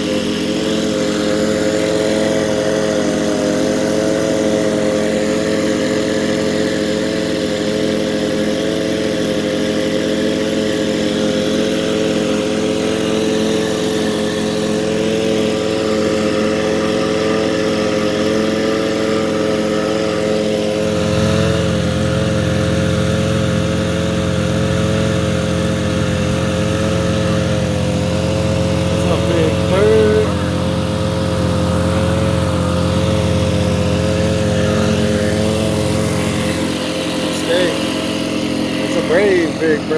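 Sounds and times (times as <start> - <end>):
outboard motor humming: 0.0 - 39.9.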